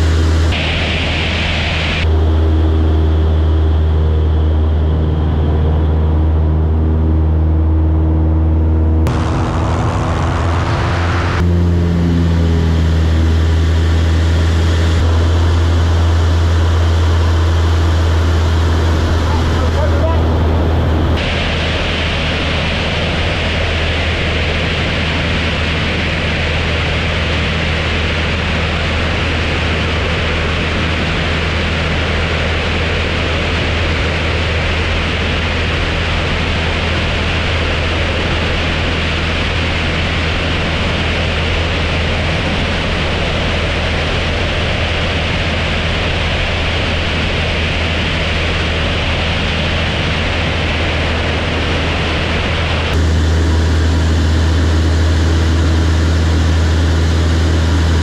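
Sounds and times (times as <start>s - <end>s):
propeller aircraft engine drone: 0.0s - 58.0s.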